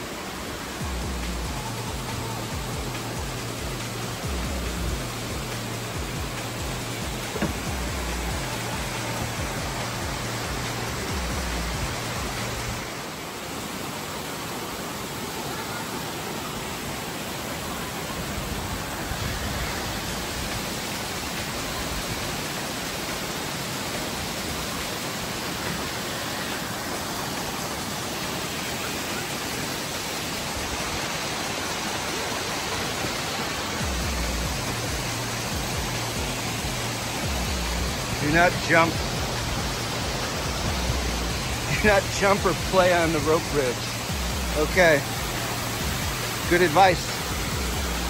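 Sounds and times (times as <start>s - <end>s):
waterfall and stream rushing: 0.0s - 48.0s.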